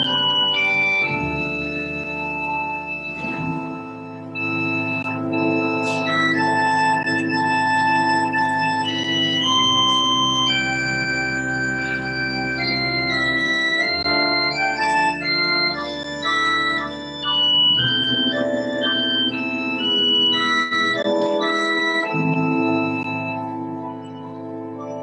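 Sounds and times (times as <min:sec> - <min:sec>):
organ playing slow piece: 0:00.0 - 0:25.0.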